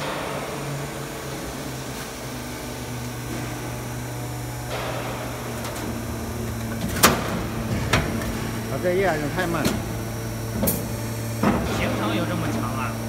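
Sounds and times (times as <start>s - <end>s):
roll forming machine humming: 0.0s - 13.0s.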